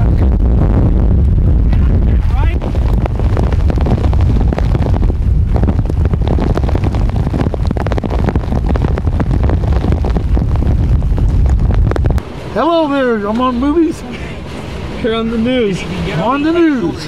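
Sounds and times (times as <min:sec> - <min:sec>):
driving rain: 0:00.0 - 0:17.0
storm wind buffeting microphone: 0:00.0 - 0:17.0.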